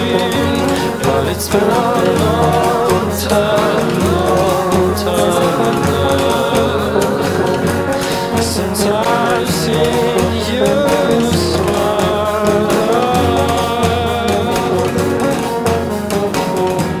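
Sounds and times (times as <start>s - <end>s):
bass and drum beat: 0.0s - 17.0s
person singing: 0.0s - 17.0s
strummed guitar: 0.0s - 17.0s.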